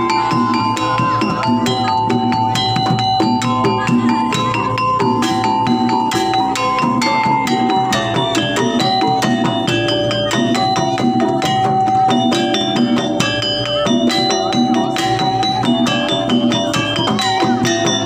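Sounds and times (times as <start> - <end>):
gamelan music: 0.0 - 18.0.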